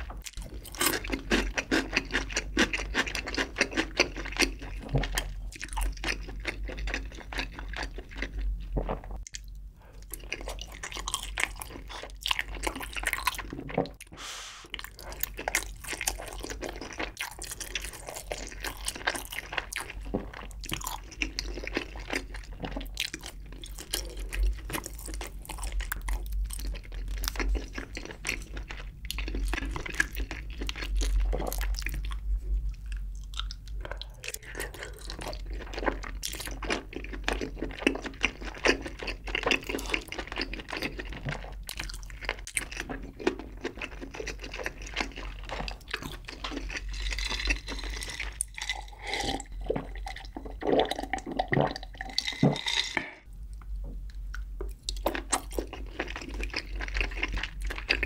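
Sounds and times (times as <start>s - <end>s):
person chewing with wet clicks: 0.0s - 14.1s, 14.7s - 58.0s.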